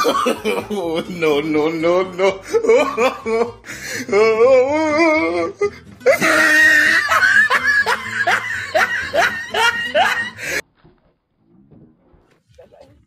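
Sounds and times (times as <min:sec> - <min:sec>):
person laughing loudly: 0:00.0 - 0:10.6.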